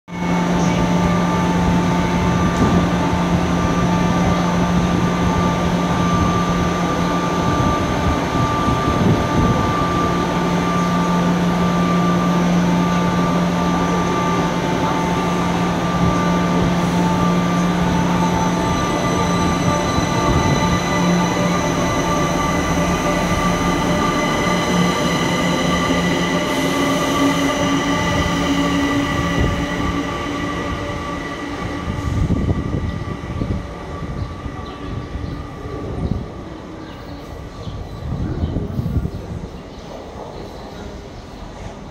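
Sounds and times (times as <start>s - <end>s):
metro train equipment humming: 0.1s - 41.9s
train moving off: 0.2s - 41.9s.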